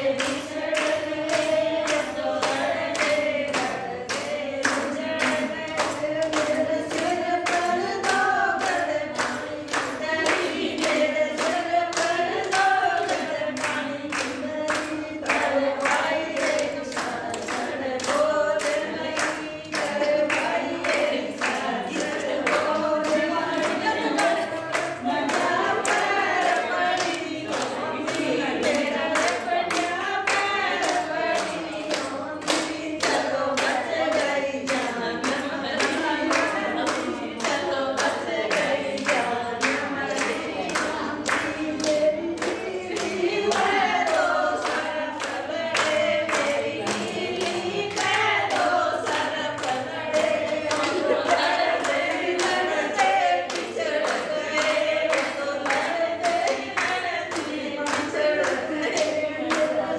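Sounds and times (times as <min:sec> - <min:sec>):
hand clapping: 0:00.0 - 0:59.9
women singing folk song: 0:00.0 - 0:59.9.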